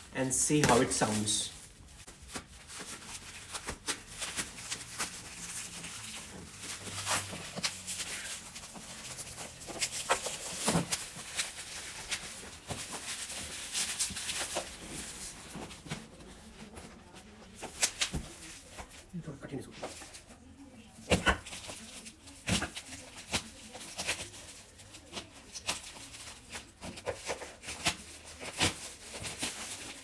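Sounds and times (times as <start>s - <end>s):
cardboard rustling and scraping: 0.5s - 19.1s, 19.7s - 30.0s.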